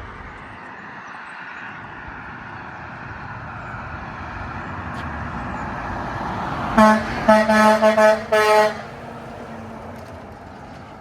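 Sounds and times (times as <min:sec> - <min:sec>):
truck engine and tyre noise: 0:00.0 - 0:11.0.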